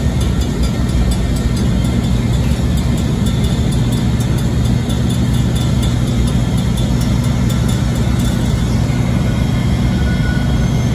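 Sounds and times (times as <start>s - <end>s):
diesel locomotive engine drone: 0.0s - 10.9s.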